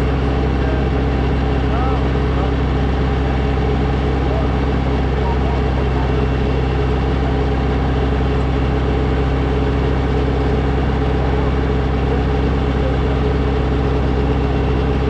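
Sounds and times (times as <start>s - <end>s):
snowblower engine running: 0.0s - 15.0s.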